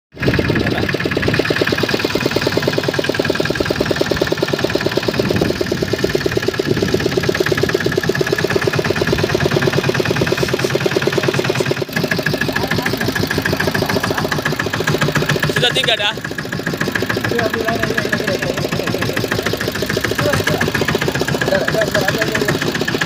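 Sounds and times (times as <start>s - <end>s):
boat engine idling: 0.1s - 23.0s.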